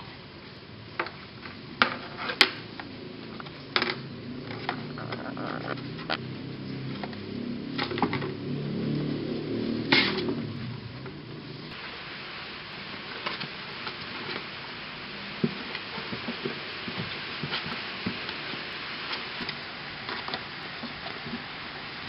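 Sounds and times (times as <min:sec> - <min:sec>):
rain hissing: 0:00.0 - 0:22.0.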